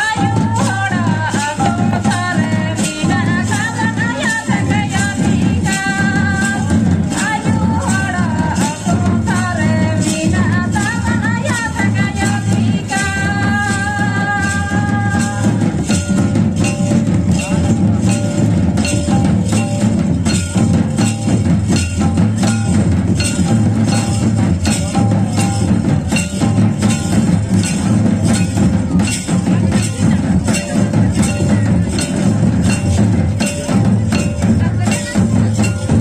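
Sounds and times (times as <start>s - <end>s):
hand drums beating: 0.0s - 36.0s.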